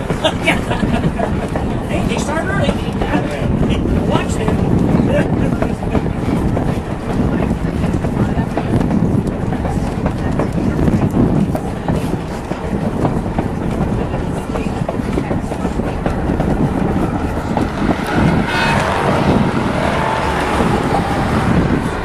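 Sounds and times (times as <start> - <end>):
train cars rumbling on track: 0.0 - 22.0.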